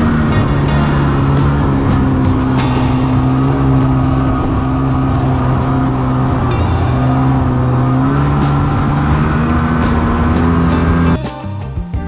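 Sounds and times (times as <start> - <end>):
snowmobile engine running: 0.0 - 11.2.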